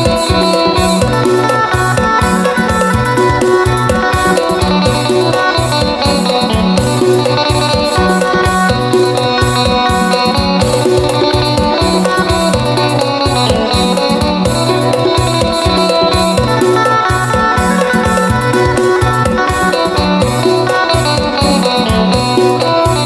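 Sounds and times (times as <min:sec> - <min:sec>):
plucked lute melody: 0:00.0 - 0:23.0
steady percussion beat: 0:00.0 - 0:23.0.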